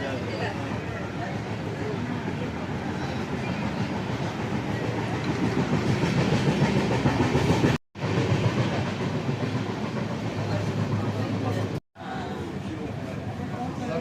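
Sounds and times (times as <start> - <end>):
train wheels clickety-clack on track: 0.0 - 14.0.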